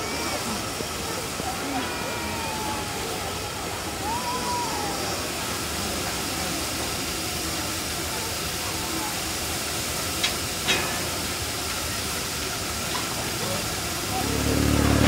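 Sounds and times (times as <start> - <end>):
faint voices: 0.0 - 15.0
steam hissing: 0.0 - 15.0.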